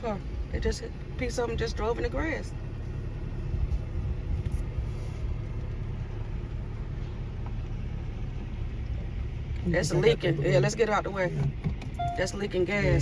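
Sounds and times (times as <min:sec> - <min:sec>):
car driving slowly: 0:00.0 - 0:13.0.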